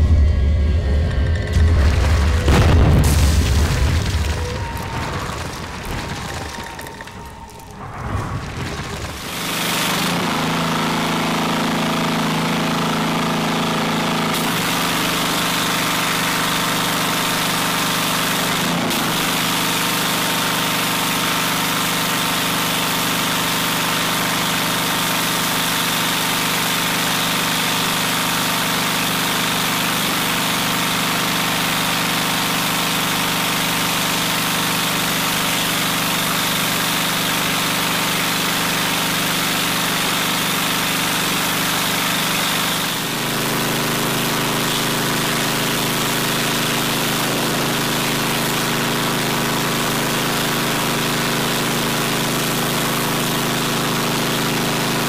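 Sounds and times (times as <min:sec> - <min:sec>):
pressure washer engine running: 0:09.2 - 0:55.0.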